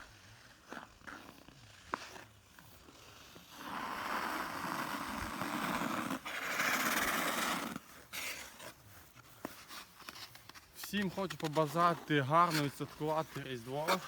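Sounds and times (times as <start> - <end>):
ice skate blades scraping ice: 0.0 - 14.0.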